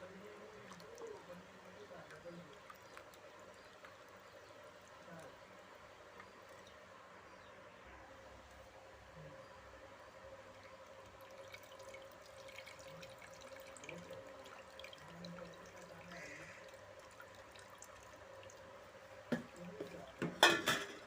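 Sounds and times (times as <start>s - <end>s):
faint dripping: 0.0s - 20.4s.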